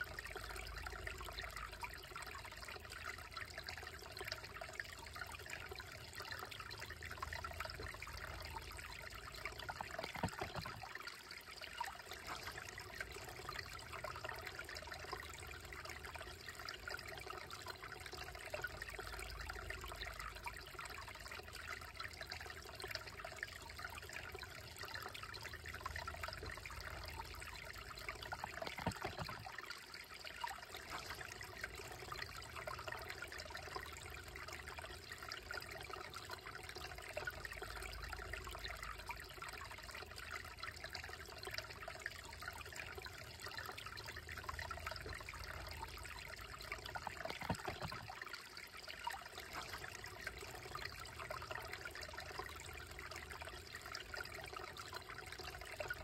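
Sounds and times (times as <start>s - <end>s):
creek trickling over rocks: 0.0s - 56.0s.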